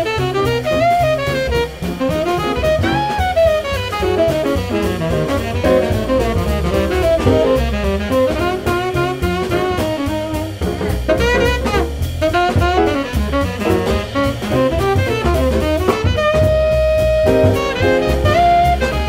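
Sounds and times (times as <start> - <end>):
drum kit: 0.0 - 19.0
piano: 0.0 - 19.0
trumpet solo: 0.0 - 19.0
upright bass: 0.0 - 19.0.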